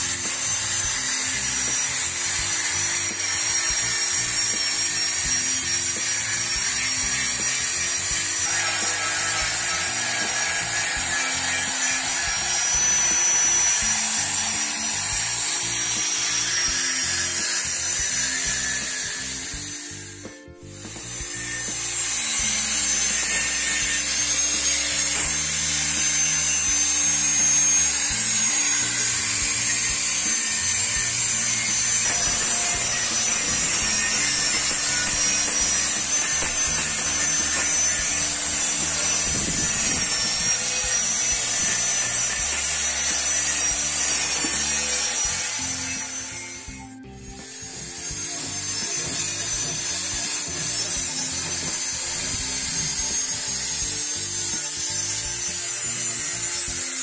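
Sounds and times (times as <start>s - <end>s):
angle grinder grinding steel: 0.0s - 57.0s.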